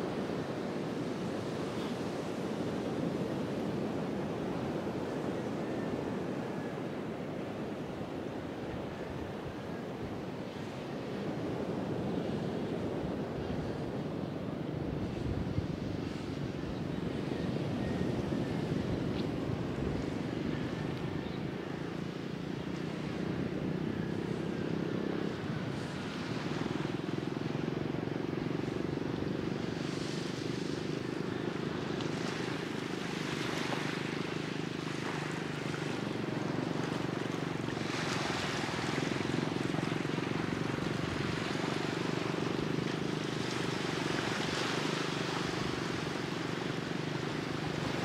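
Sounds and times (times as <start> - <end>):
distant engine droning: 0.0 - 48.0.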